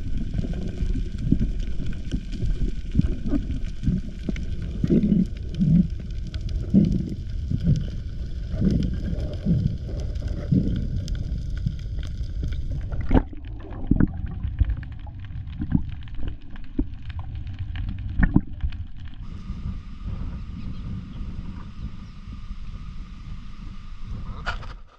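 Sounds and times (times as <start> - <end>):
underwater rumble of moving water: 0.0 - 24.9.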